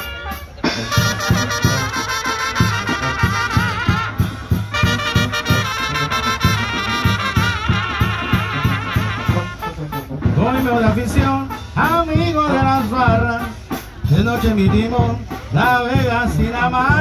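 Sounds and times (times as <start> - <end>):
low rhythmic beat: 0.0 - 17.0
trumpets playing melody: 0.0 - 17.0.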